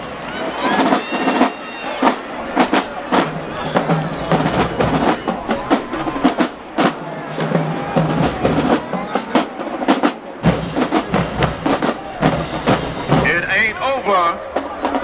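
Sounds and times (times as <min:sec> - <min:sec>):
marching drumline cadence: 0:00.0 - 0:15.0.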